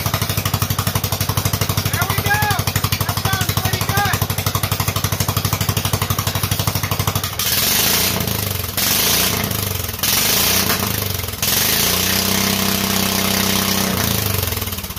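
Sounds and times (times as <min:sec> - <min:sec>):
single-cylinder engine revving: 0:00.0 - 0:14.9.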